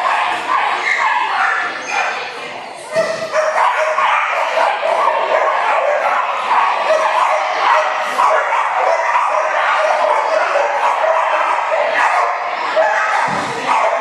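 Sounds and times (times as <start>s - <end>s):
many dogs barking: 0.0s - 14.0s.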